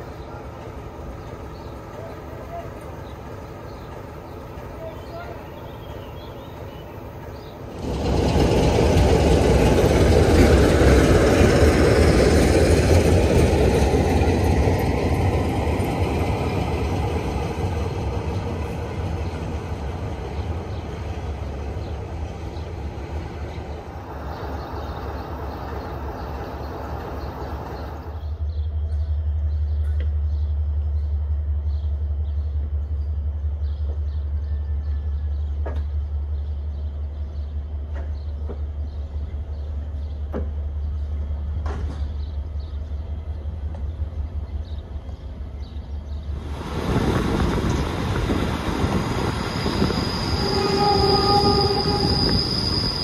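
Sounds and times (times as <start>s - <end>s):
diesel locomotive passing: 0.0s - 53.0s.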